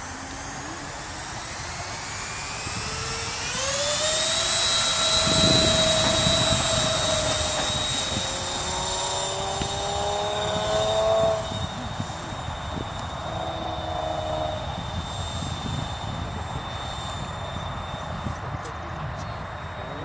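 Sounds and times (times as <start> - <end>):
electric ducted fans whining: 0.0 - 20.0.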